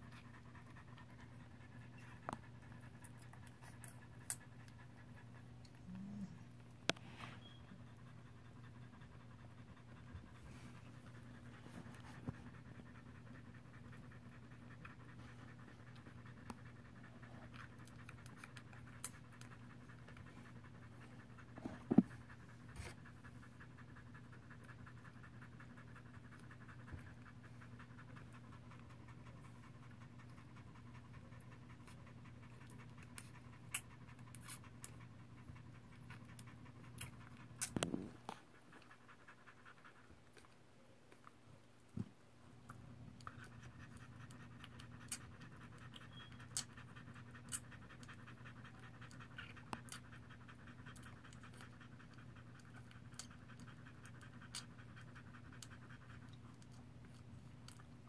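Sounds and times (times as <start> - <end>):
dog panting rapidly: 0.0 - 40.5, 43.0 - 58.0.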